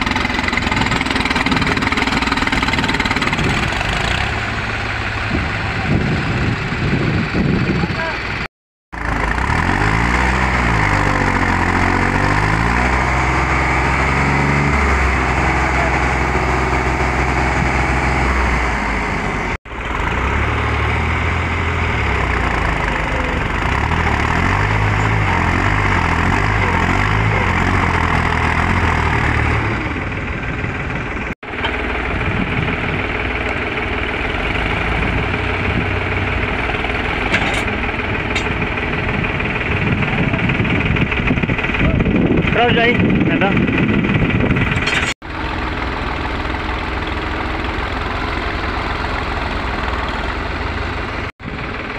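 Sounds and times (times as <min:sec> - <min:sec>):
tractor diesel engine straining: 0:00.0 - 0:51.9.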